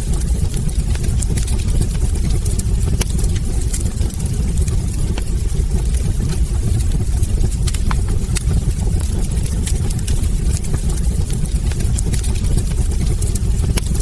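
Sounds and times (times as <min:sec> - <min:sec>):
logs crackling and popping: 0:00.0 - 0:14.0
wood fire rumbling: 0:00.0 - 0:14.0.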